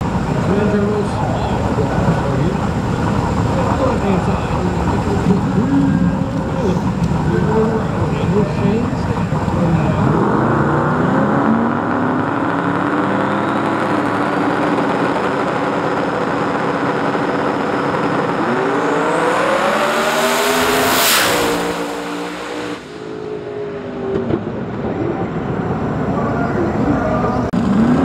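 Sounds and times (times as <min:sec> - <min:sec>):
race car engines revving: 0:00.0 - 0:28.0
race cars passing by: 0:00.0 - 0:28.0.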